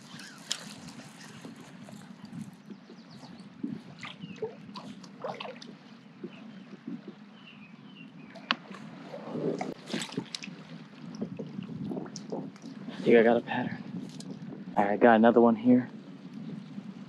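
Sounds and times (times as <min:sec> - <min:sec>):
water sloshing against boat: 0:00.0 - 0:14.8
steady low hum: 0:00.0 - 0:17.0.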